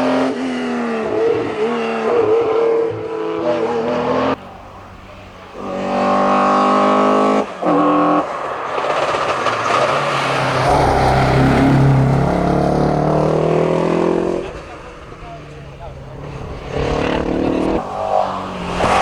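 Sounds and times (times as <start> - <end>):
car engine howling at high revs: 0.0 - 19.0.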